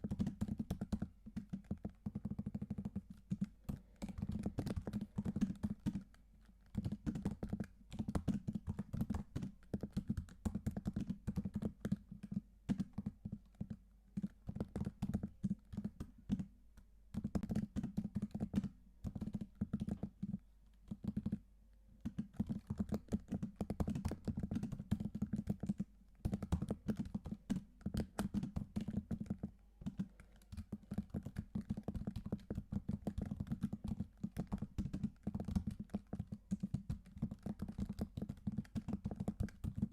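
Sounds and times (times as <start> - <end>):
computer keyboard typing: 0.0 - 16.5, 17.1 - 21.4, 22.0 - 39.9.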